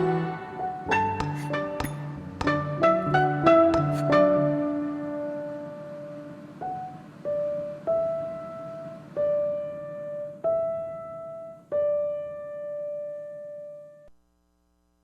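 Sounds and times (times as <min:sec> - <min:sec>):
slow piano melody: 0:00.0 - 0:14.1.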